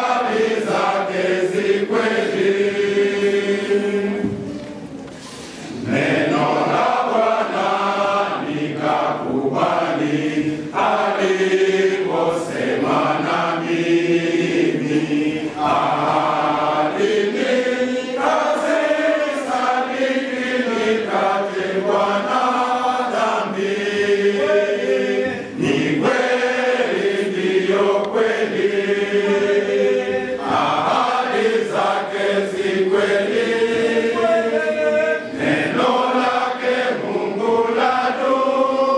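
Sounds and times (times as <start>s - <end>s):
men's choir singing a hymn: 0.0s - 38.9s.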